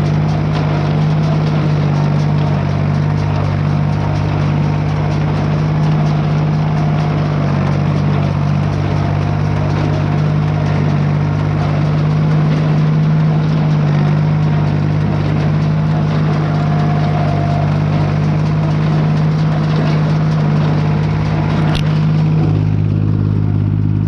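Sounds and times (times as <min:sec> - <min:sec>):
baler running: 0:00.0 - 0:24.0
sharp clack: 0:00.0 - 0:24.0
tractor engine running under load: 0:00.0 - 0:24.0.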